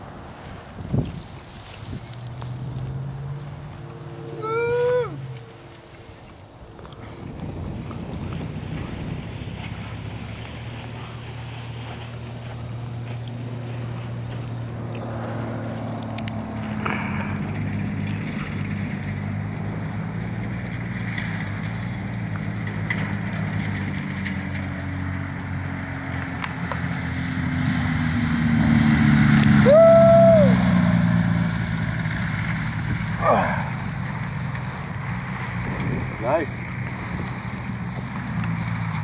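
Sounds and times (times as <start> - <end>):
light aircraft engine and propeller drone: 0.0 - 39.0.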